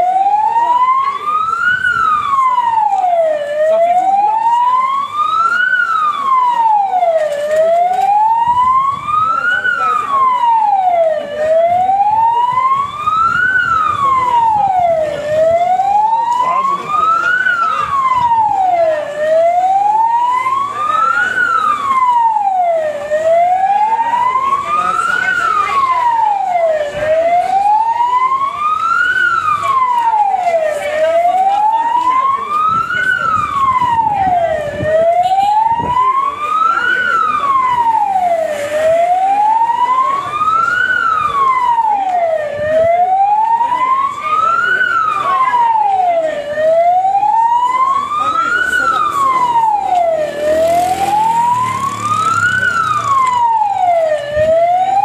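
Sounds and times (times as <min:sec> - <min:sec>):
siren wailing: 0:00.0 - 0:55.0.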